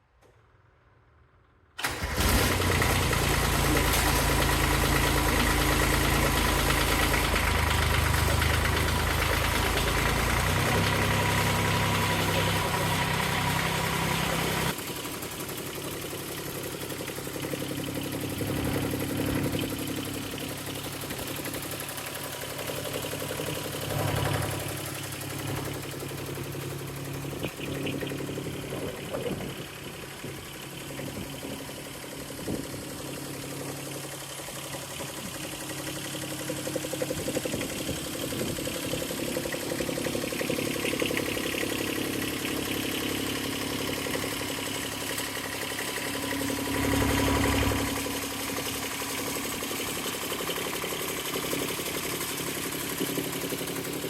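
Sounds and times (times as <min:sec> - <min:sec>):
garden tractor engine running: 0:01.7 - 0:54.0.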